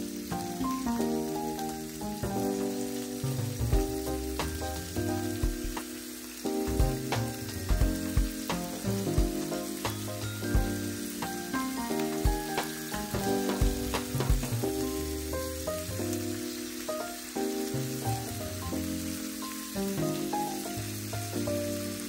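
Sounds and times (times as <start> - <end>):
crackling hiss: 0.0 - 22.0
music with chords bass and drums: 0.0 - 22.0.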